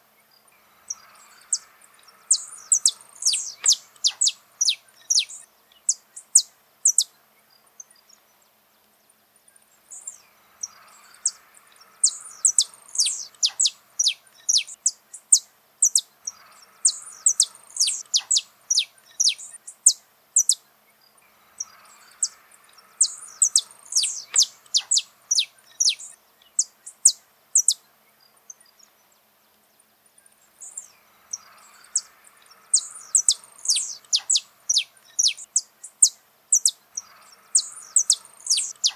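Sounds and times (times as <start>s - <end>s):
finch singing: 0.5s - 8.3s, 9.9s - 29.0s, 30.4s - 38.9s.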